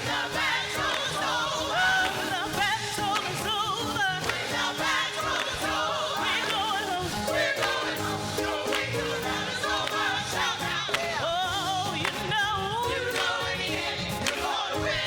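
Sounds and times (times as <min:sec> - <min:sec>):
gospel singers with vibrato: 0:00.0 - 0:15.0.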